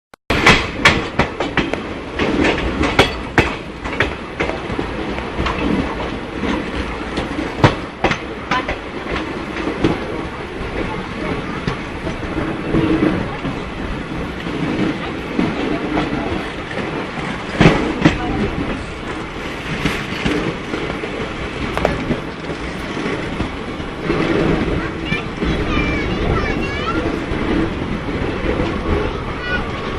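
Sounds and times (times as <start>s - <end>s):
train coaches rumbling: 0.3s - 29.9s
wheels clacking over rail joints: 0.3s - 29.9s.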